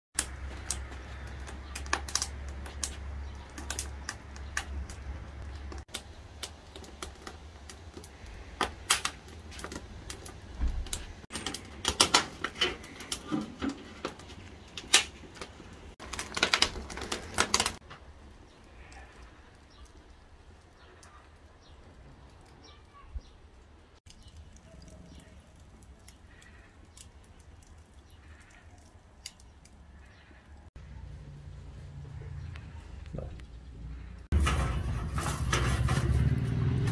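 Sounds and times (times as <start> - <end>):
firewood crackling and popping: 0.2 - 36.9.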